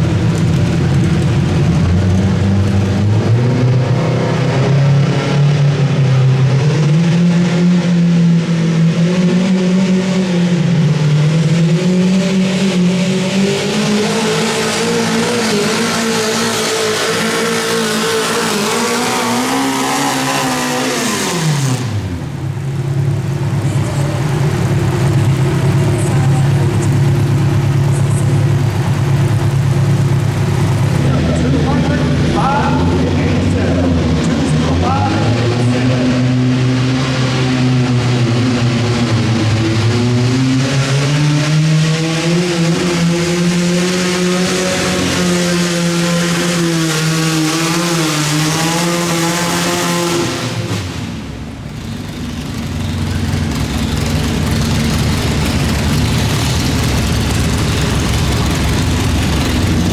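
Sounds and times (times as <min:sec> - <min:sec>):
engine running at low revs: 0:00.0 - 0:59.9
tractor engine at high revs: 0:00.0 - 0:59.9.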